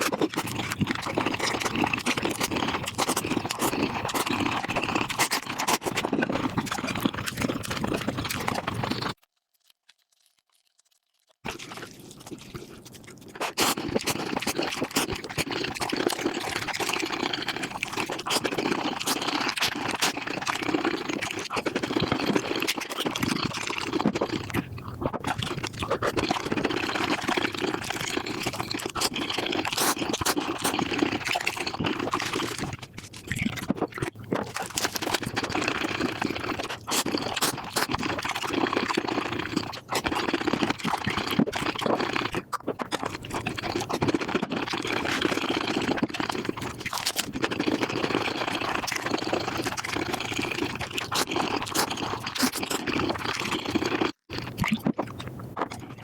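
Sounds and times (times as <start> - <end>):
sped-up chewing and slurping: 0.0 - 56.0.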